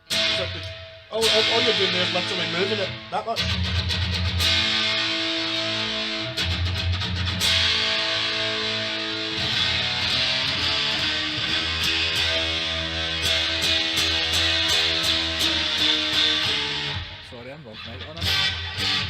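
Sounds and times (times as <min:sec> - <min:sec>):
electric guitar chords strummed: 0:00.0 - 0:19.0.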